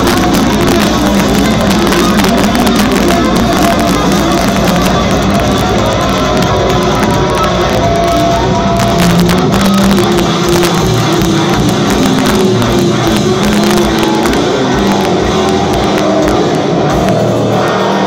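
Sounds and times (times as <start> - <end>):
distorted electric guitars: 0.0 - 18.0
drum kit: 0.0 - 18.0
rock vocals: 0.0 - 18.0.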